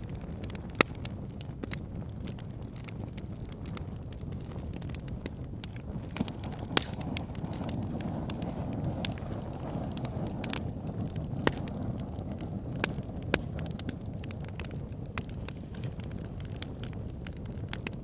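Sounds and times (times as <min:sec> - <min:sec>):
wood fire burning and crackling: 0:00.0 - 0:18.0.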